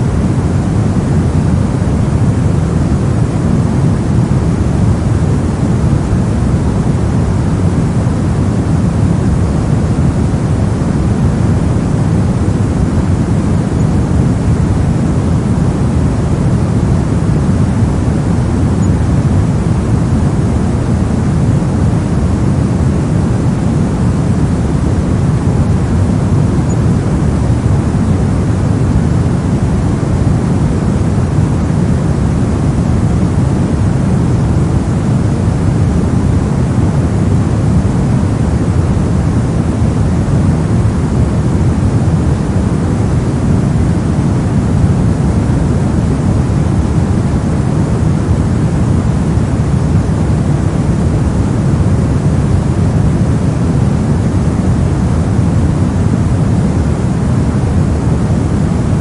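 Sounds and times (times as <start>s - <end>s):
deep white noise hiss: 0.0s - 59.0s.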